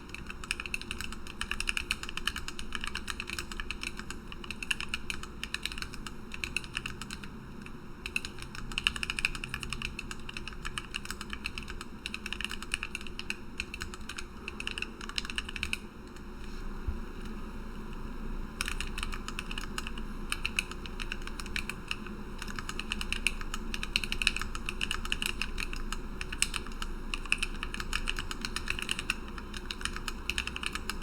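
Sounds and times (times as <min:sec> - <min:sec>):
mechanical keyboard typing: 0:00.0 - 0:07.3, 0:08.0 - 0:16.2, 0:18.6 - 0:31.0.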